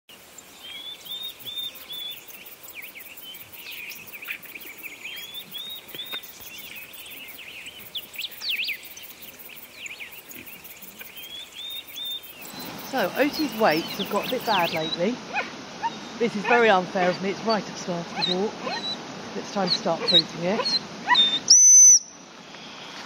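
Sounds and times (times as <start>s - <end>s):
woodland birdsong: 0.1s - 23.0s.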